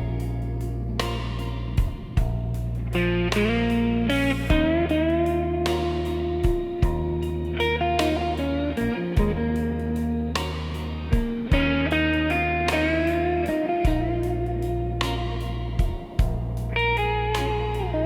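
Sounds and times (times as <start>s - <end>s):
guitar melody: 0.0s - 18.0s
sustained bass chords: 0.0s - 18.0s.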